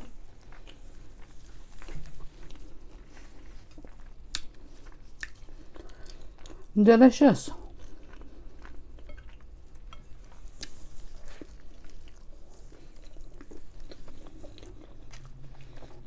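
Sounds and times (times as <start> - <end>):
person chewing food: 0.0 - 6.8, 7.6 - 16.0.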